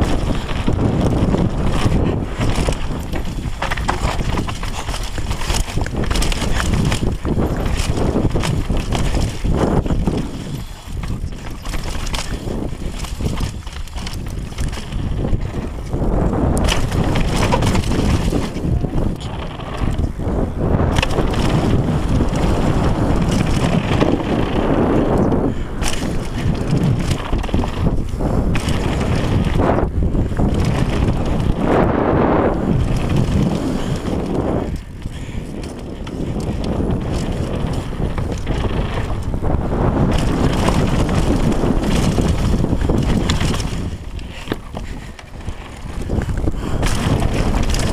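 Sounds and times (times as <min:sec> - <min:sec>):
bike knocking and rattling: 0:00.0 - 0:47.9
bike tyre noise: 0:00.0 - 0:47.9
wind rushing over microphone: 0:00.0 - 0:47.9.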